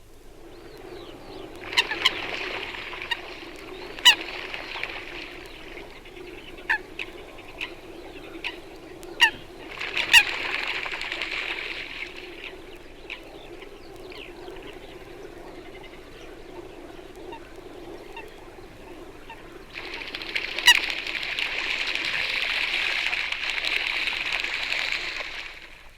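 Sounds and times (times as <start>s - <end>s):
birds splashing across water: 0.0s - 25.9s.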